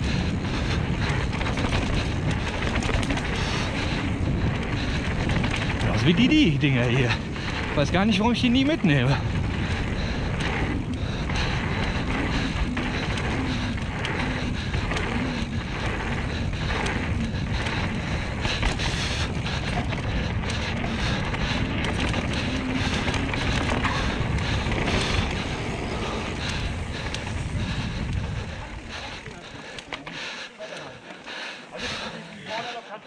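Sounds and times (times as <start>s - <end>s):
wind buffeting microphone: 0.0s - 29.8s
bike rattling over bumps: 0.0s - 33.0s
bike tyres rolling on dirt: 0.0s - 33.0s.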